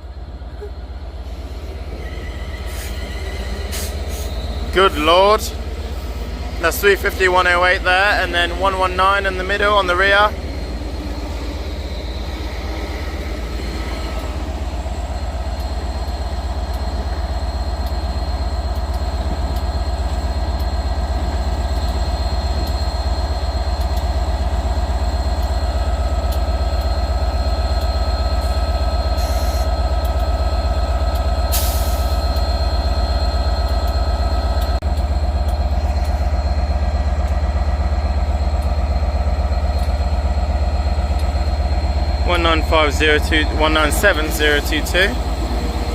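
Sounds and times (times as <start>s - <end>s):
train droning: 0.0s - 45.9s.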